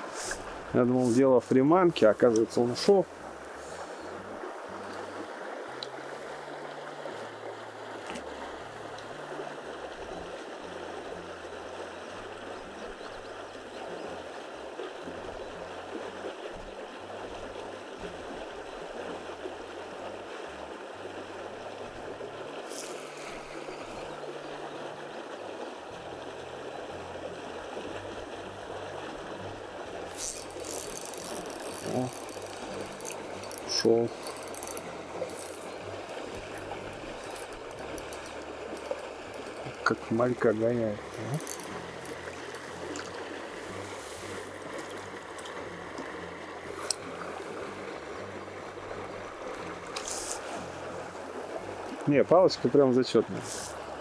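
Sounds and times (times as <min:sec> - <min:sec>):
water rushing in a stream: 0:00.0 - 0:54.0.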